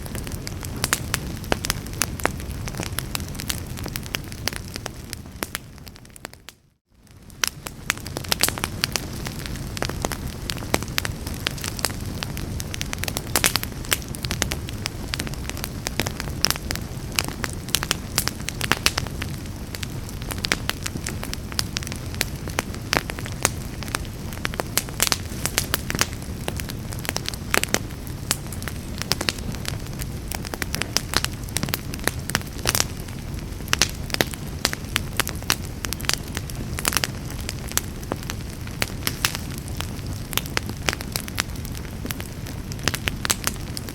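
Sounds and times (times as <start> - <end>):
fire crackling and popping: 0.0 - 43.9
low rumble of flame: 0.0 - 43.9.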